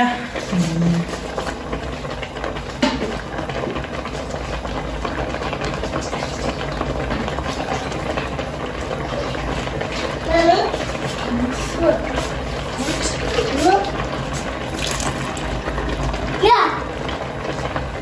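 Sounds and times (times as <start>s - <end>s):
stew bubbling in pot: 0.0s - 18.0s.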